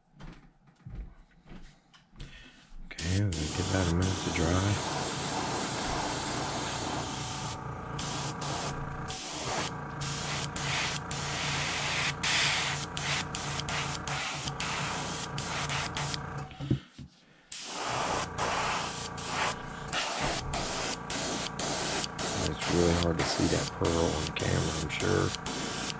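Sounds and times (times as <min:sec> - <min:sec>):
steady low hum: 0:00.3 - 0:25.9
airbrush spraying hiss: 0:03.0 - 0:16.2, 0:17.5 - 0:25.9.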